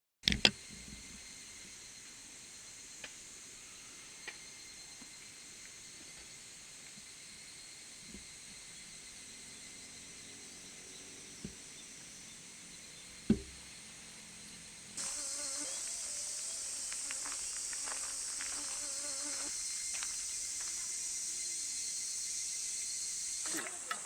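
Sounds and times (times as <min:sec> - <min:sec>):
cicadas chorus: 0:00.4 - 0:24.0.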